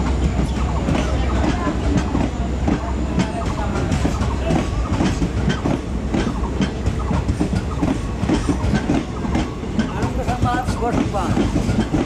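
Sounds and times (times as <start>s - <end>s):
train rumble: 0.0s - 12.0s
train wheels clattering over rail joints: 0.0s - 12.0s.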